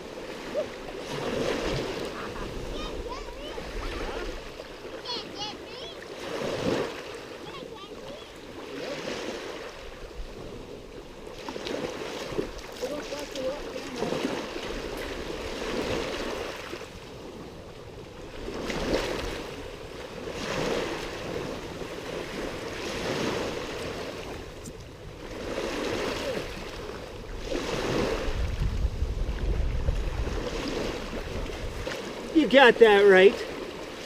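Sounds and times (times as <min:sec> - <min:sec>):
wind rumbling on microphone: 0:00.0 - 0:05.5, 0:06.2 - 0:32.8
small sea waves washing ashore: 0:00.0 - 0:34.0.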